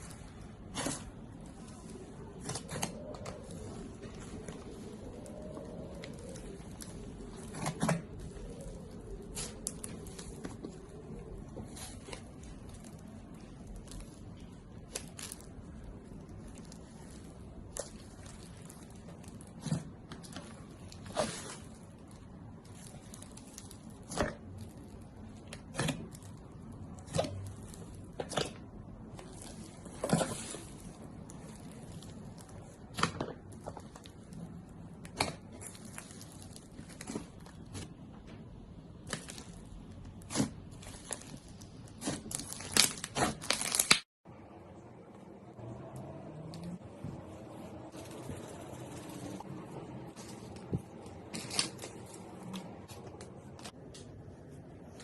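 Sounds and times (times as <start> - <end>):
slime squished by hand: 0.0 - 44.0.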